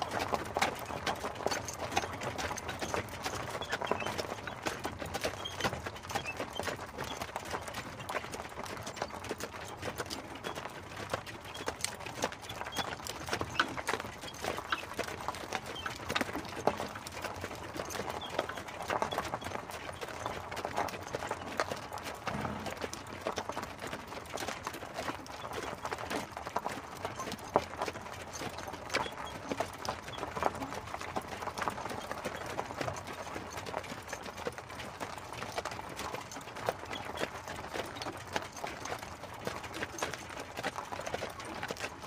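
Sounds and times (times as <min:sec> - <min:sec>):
horse hooves clip-clopping: 0:00.0 - 0:42.0.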